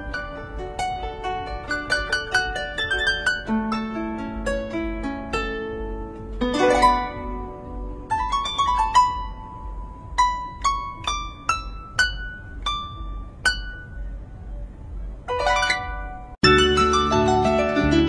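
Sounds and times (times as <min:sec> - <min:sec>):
harp plucked notes: 0:00.0 - 0:18.0.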